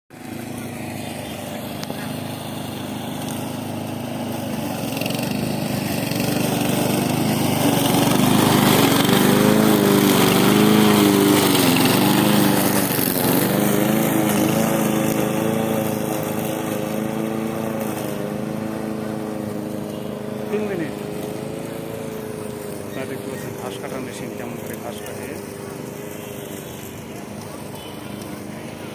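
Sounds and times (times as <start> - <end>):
lawn mower engine wavering: 0.1 - 28.9.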